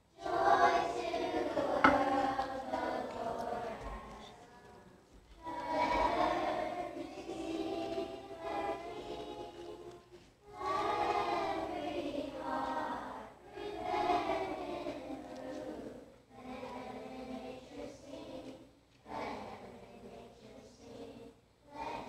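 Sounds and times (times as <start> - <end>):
children's choir singing: 0.0 - 22.0.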